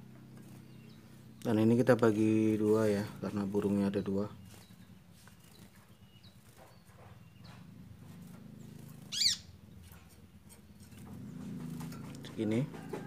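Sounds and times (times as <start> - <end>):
bird chirping call: 0.0 - 13.0.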